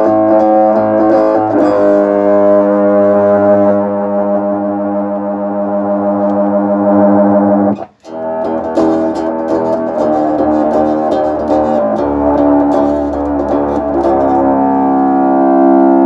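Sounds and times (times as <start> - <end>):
brassy synth bass notes: 0.0 - 16.0.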